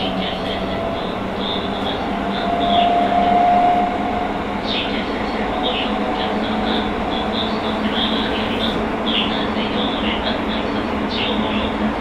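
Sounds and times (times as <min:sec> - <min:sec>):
rail noise: 0:00.0 - 0:12.0.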